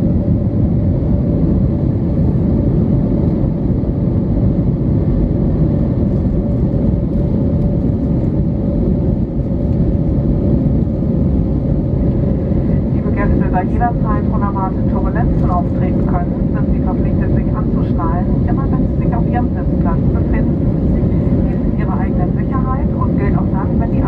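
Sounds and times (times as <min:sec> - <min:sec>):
airflow over fuselage: 0:00.0 - 0:24.0
jet engines rumbling: 0:00.0 - 0:24.0.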